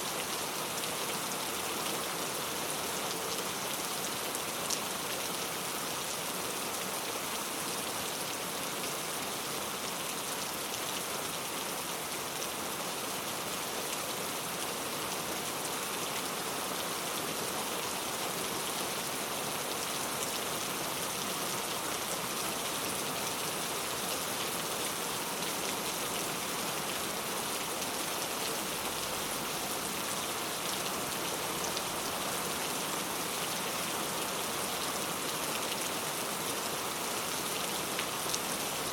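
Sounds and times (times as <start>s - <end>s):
very heavy rain: 0.0s - 38.9s.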